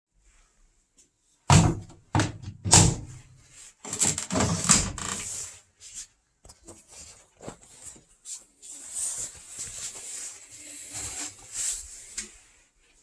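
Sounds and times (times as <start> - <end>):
clattering and handling noise: 1.0 - 12.7.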